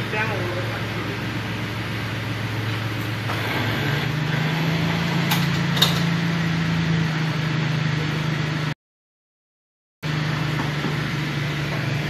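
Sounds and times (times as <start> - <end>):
engine revving under load: 0.6 - 8.8, 10.0 - 12.0.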